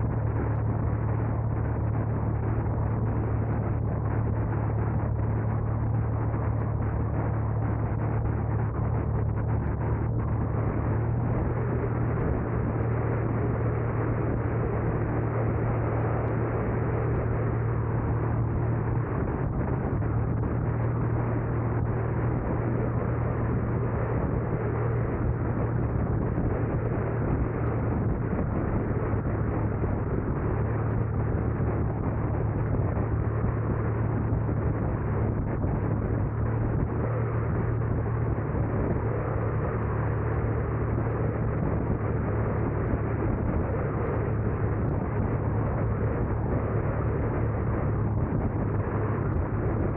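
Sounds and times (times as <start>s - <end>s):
car engine running: 0.0s - 49.9s
tyres on road: 0.0s - 49.9s.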